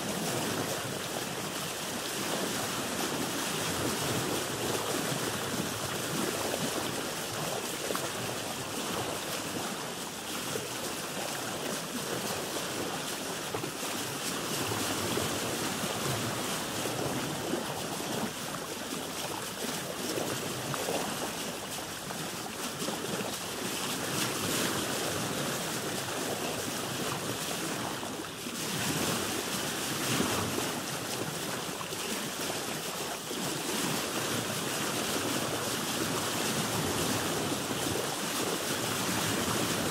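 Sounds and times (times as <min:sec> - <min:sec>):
sea water splashing around boat: 0:00.0 - 0:39.9.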